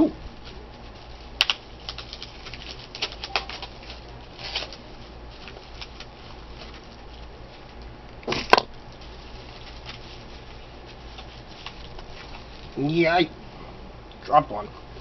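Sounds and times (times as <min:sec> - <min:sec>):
packaging rustling: 0:00.3 - 0:12.8.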